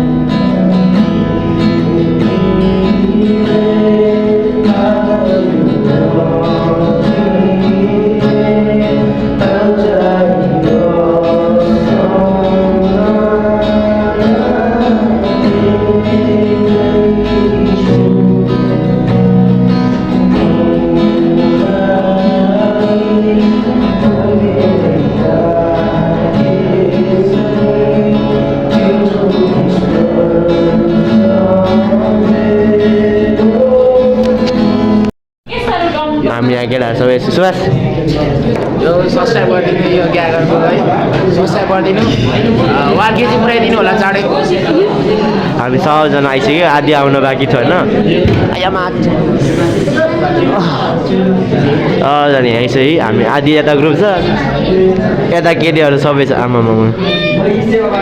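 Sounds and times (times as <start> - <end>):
song with guitar backing: 0.0 - 58.0.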